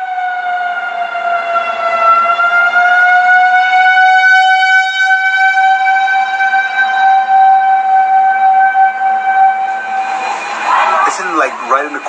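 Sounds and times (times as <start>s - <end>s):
tornado warning siren: 0.0s - 12.0s.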